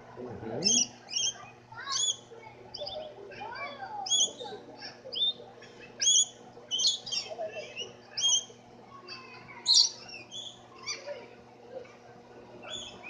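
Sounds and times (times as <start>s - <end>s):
birds chirping and squawking: 0.5s - 11.4s, 12.4s - 13.0s.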